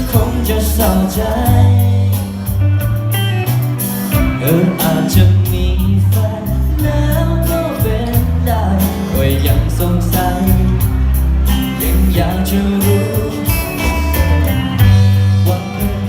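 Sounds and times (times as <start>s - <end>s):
live pop band playing: 0.0s - 16.0s
pitch-bending lead melody: 0.0s - 16.0s.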